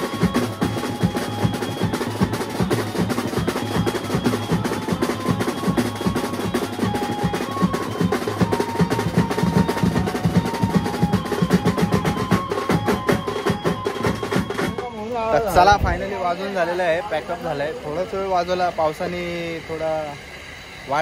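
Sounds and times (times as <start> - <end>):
fast drumming: 0.0 - 20.3.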